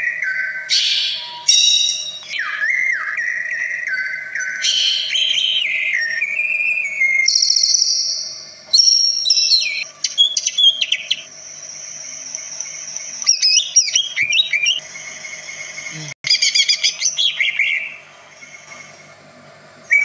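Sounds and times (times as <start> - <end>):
bird twittering: 0.0 - 14.8, 15.5 - 18.0
bird whistling varied notes: 0.0 - 14.8, 16.3 - 18.0.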